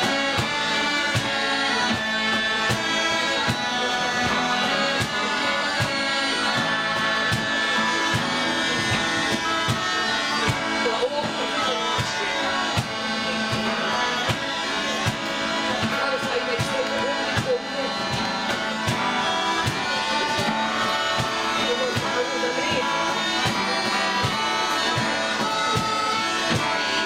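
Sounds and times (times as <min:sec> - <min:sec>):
fiddle: 0:00.0 - 0:27.0
smallpipes playing over a drone: 0:00.0 - 0:27.0
strummed acoustic guitars: 0:00.0 - 0:27.0.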